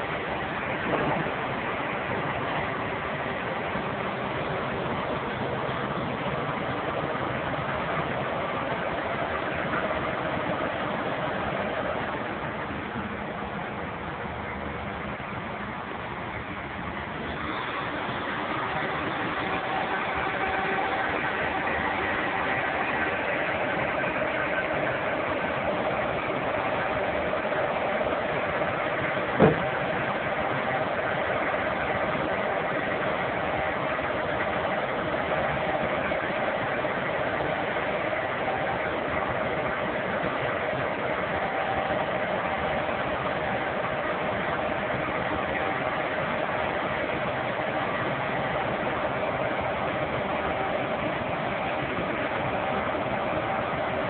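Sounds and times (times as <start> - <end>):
constant whine: 0.0 - 54.0
heavy engine running: 0.0 - 54.0
steady hum: 0.0 - 54.0.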